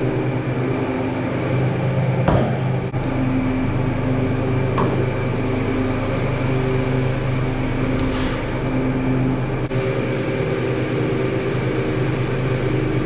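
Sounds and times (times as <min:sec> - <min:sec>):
refrigeration unit humming: 0:00.0 - 0:13.0.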